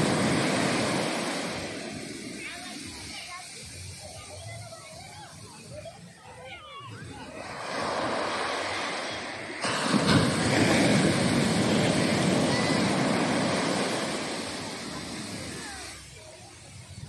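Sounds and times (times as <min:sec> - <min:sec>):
wave breaking on beach: 0:00.0 - 0:06.0, 0:07.0 - 0:17.0.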